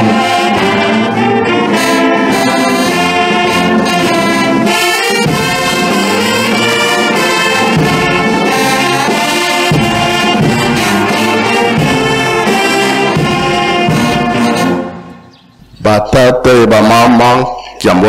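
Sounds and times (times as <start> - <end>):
brass band playing: 0.0 - 15.3.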